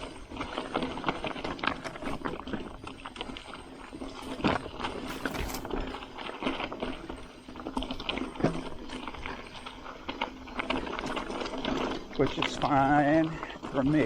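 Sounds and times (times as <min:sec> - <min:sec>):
bike rattling over rough track: 0:00.0 - 0:14.0.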